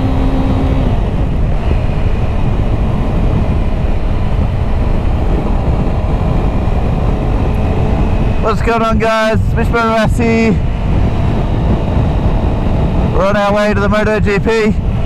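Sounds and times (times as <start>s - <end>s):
motorcycle engine drone: 0.0s - 15.0s
wind on microphone: 0.0s - 15.0s.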